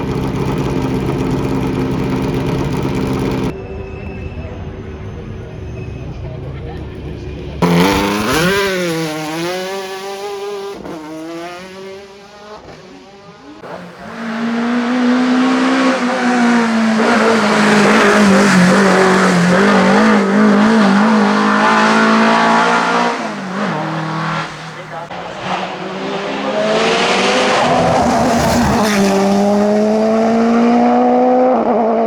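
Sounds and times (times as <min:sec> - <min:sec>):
race car engine at high revs: 0:00.0 - 0:03.5, 0:07.6 - 0:32.0.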